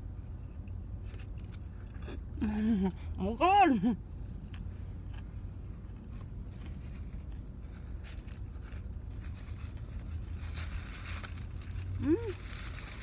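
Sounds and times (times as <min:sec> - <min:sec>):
clicks of chewing and handling food: 0:00.4 - 0:03.0, 0:04.3 - 0:13.0.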